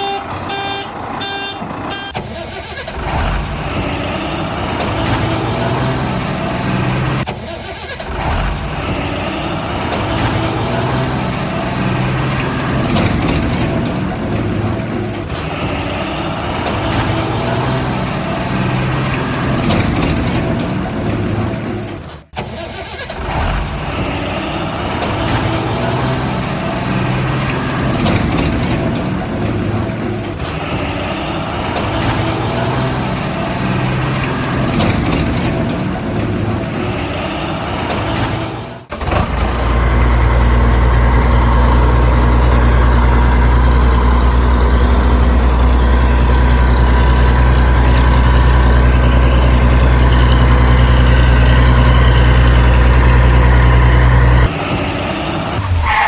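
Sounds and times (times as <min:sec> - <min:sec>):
diesel engine deep idle: 0:00.0 - 0:55.6
heavy diesel engine revving: 0:00.0 - 0:56.0.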